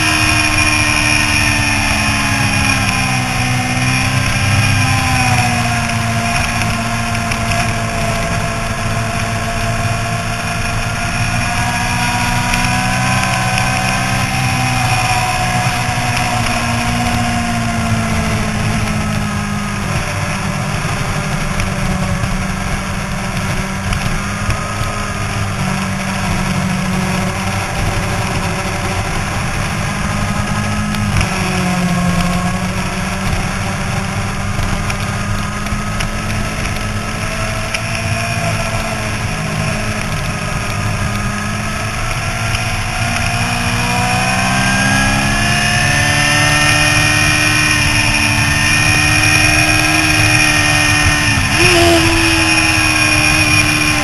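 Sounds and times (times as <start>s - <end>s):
motorcycle engine at high revs: 0.0s - 54.0s
wind noise: 0.0s - 54.0s.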